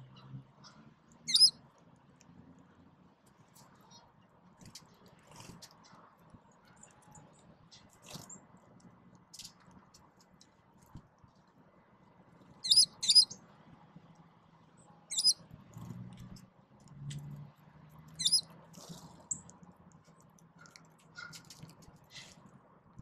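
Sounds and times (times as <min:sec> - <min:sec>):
songbirds chirping: 0:00.0 - 0:22.6.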